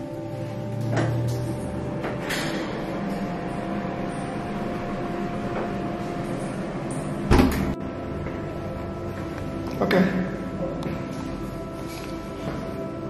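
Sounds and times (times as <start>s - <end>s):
faint hum: 0.0s - 13.0s
steady rumbling background noise: 0.0s - 13.0s.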